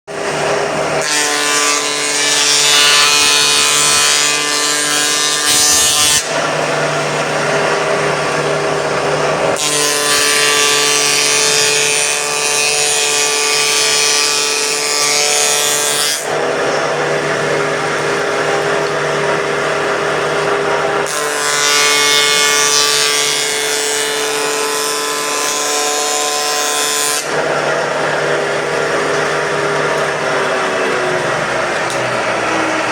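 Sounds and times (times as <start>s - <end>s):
power tool cutting wood: 0.1s - 32.9s.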